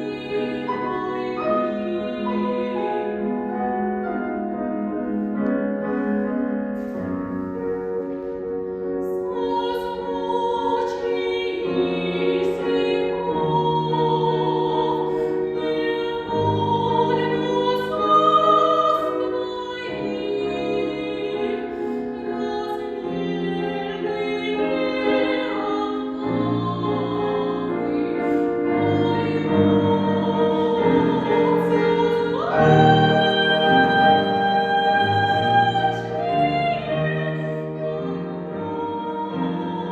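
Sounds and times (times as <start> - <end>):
woman singing with vibrato: 0.0 - 3.4, 9.0 - 39.9
piano accompaniment: 0.0 - 39.9.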